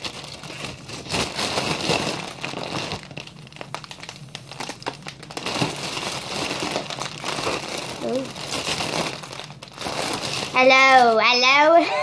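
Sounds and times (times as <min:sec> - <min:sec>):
foil balloon crinkling: 0:00.0 - 0:11.8.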